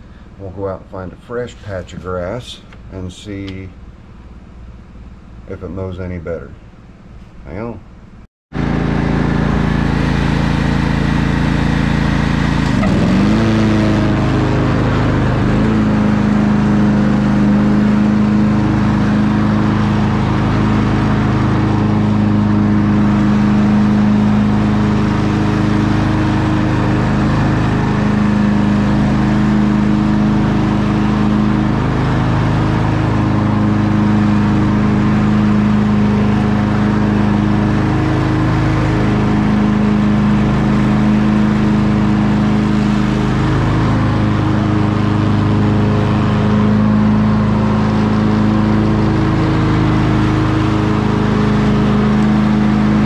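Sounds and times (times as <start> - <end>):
riding mower engine running: 0.0 - 53.0.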